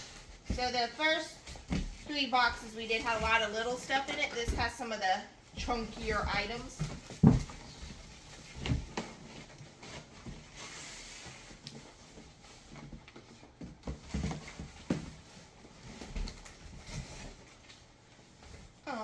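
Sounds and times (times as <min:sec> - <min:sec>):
items knocking and thudding: 0:00.0 - 0:10.7, 0:11.4 - 0:17.7.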